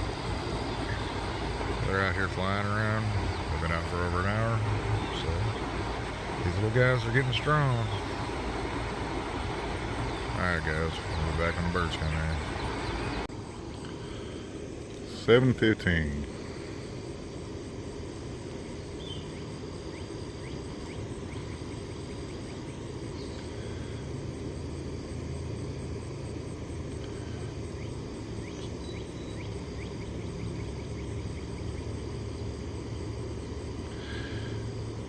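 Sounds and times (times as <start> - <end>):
distant engine rumble: 0.0 - 35.0
faint high hum: 0.0 - 35.0.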